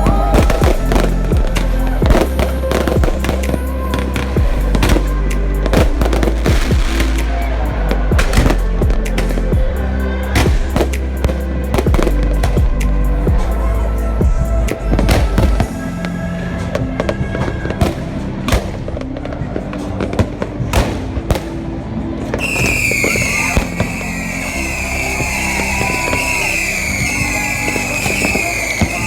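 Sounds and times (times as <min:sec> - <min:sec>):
background music: 0:00.0 - 0:29.0.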